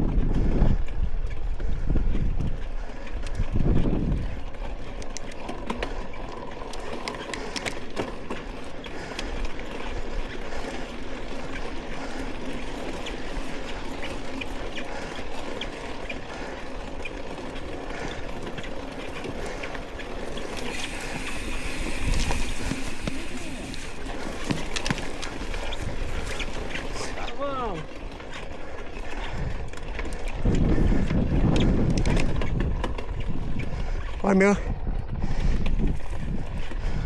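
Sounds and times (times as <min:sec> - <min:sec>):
bike clicks and rattles: 0:00.0 - 0:37.0
bike tyres rolling on dirt: 0:00.0 - 0:37.0.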